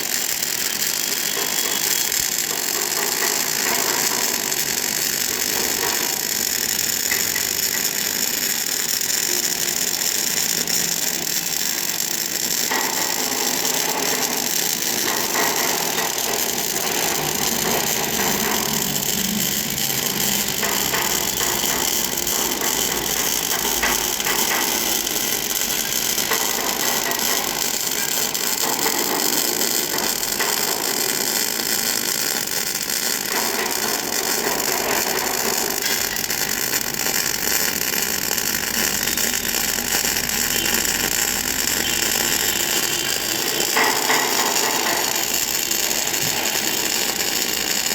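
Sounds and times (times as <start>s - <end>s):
welding arc crackling: 0.0s - 47.9s.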